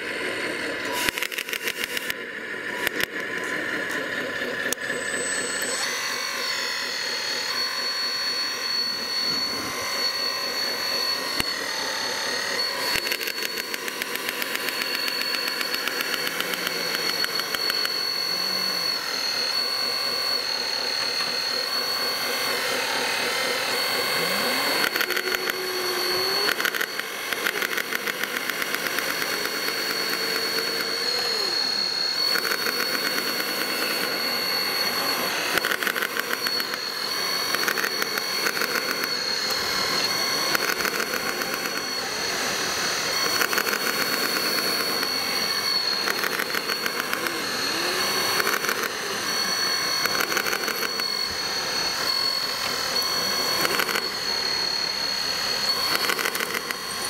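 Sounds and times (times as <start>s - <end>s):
model loader motor whine: 0.0s - 57.0s.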